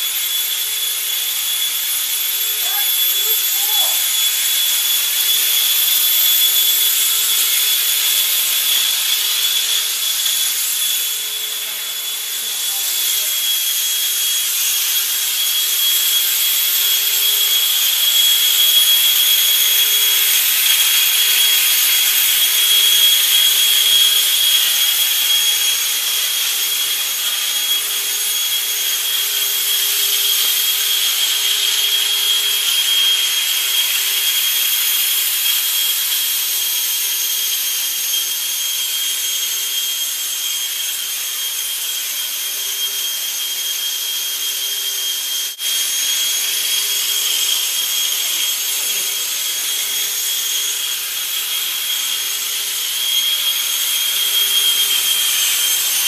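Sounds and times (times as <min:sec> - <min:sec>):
electric suction fan whining: 0:00.0 - 0:56.0.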